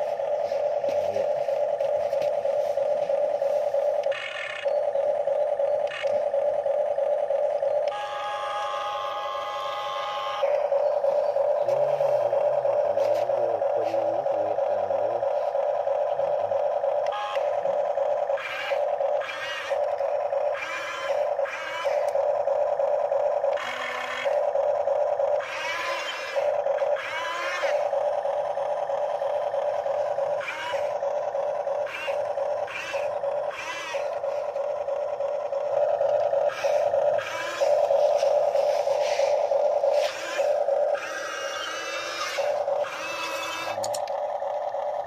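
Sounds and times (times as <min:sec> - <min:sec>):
electric motors whining: 0:00.0 - 0:45.0
toy excavator buzzing hum: 0:00.0 - 0:45.0.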